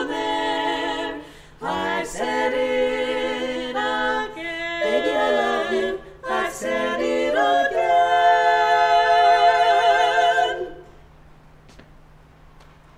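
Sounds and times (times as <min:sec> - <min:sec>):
women singing in harmony: 0:00.0 - 0:11.0.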